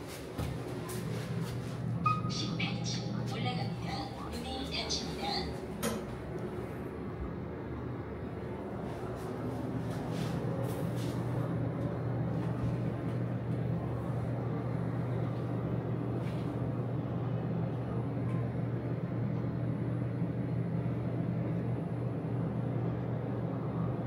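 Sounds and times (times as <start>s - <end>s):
elevator hum and rumble: 0.0s - 24.0s.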